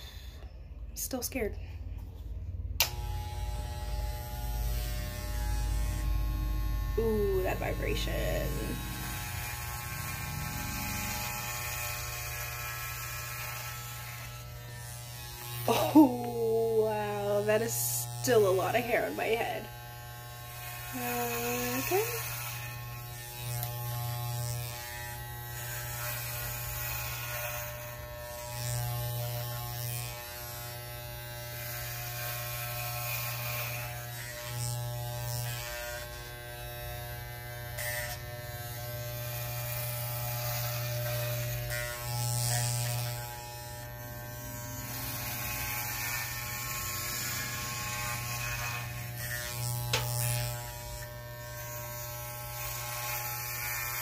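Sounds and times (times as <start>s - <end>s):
electric hair clippers buzzing: 1.3s - 54.0s.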